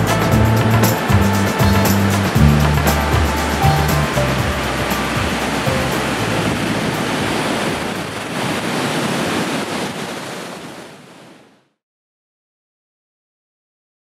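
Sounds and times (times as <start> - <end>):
ocean waves breaking: 0.0 - 11.7.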